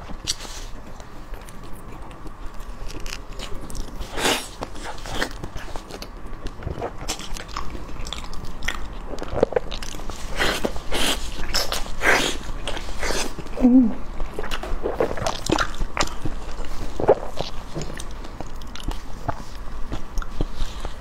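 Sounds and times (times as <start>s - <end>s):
chewing with wet smacks: 0.1s - 12.0s, 14.2s - 21.0s.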